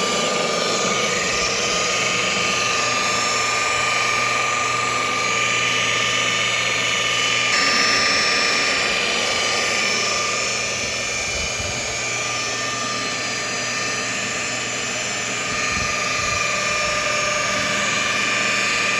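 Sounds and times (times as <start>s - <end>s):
electric polishing machine whine: 0.0s - 18.9s.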